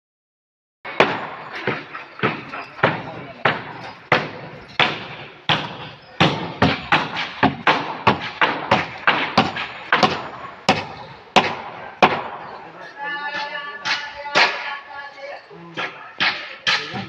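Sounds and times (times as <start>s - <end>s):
sharp ringing knocks: 0.9s - 14.8s, 16.2s - 17.0s.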